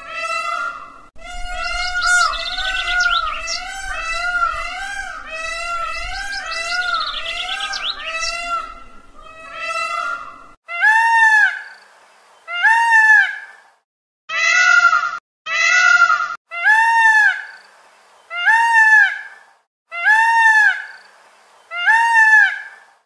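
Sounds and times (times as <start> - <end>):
peacock calling: 0.0 - 11.8, 12.4 - 13.6, 14.3 - 17.6, 18.2 - 22.9.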